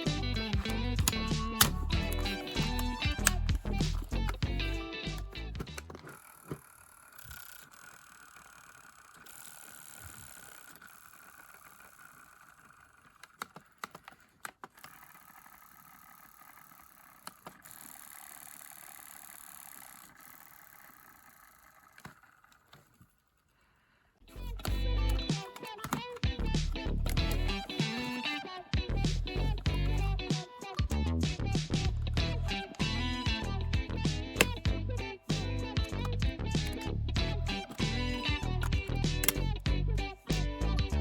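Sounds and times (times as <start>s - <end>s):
cassette player whirring: 0.0s - 22.9s, 24.3s - 30.9s, 31.5s - 40.9s.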